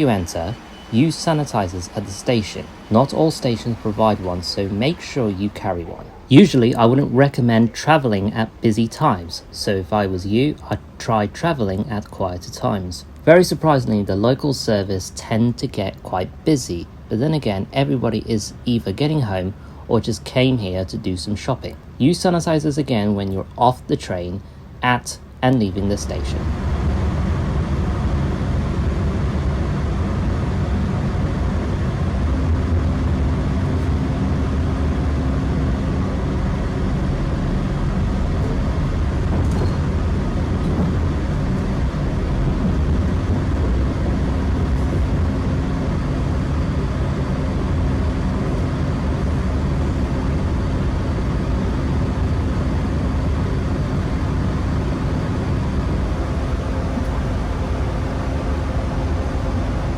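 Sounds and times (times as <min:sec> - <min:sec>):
train rumble inside coach: 0:00.0 - 0:22.4, 0:25.2 - 0:59.9
constant low hum: 0:00.0 - 0:59.9.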